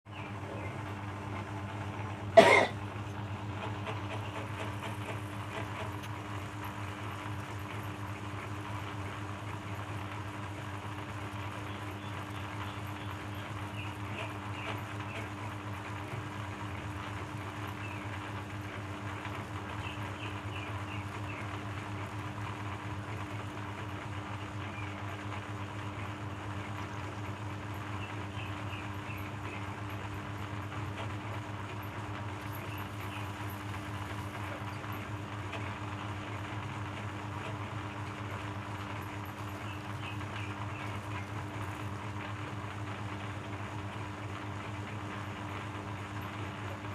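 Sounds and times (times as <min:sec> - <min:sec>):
shredder machine humming: 0:00.1 - 0:46.9.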